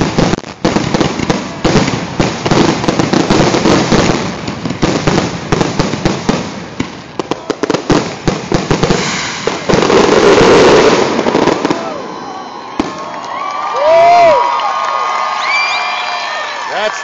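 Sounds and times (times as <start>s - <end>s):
fireworks exploding: 0.0s - 14.5s.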